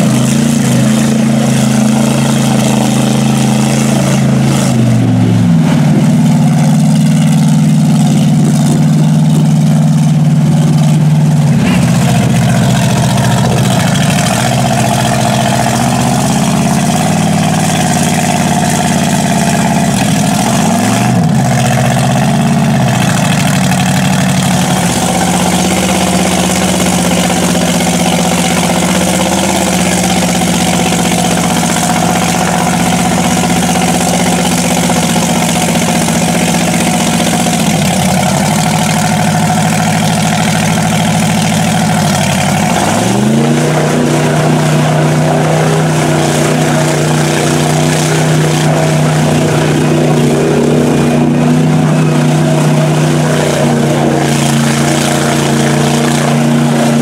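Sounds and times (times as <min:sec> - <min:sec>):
tires churning through mud: 0:00.0 - 0:57.0
truck engine revving hard: 0:00.0 - 0:57.0.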